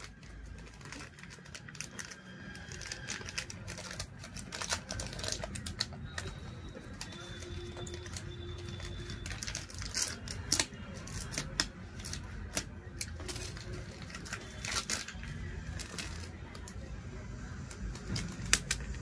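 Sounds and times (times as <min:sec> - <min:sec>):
plastic packet crinkling and tearing: 0:00.0 - 0:16.9.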